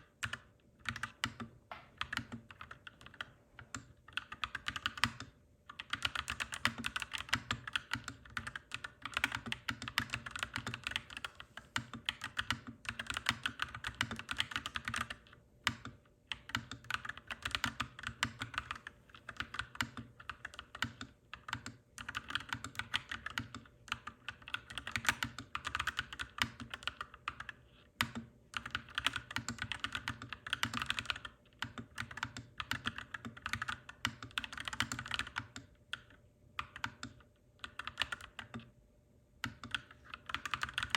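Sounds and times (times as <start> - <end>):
mechanical keyboard typing: 0.2 - 38.8, 39.4 - 40.9.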